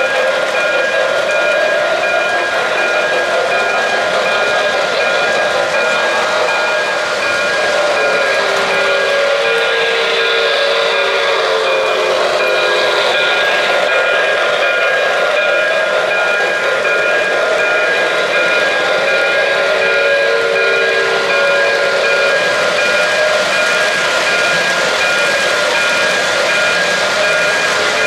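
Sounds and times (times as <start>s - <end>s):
passing train cars: 0.0s - 28.0s
steam locomotive whistle: 0.0s - 28.0s
steam hiss: 0.2s - 28.0s.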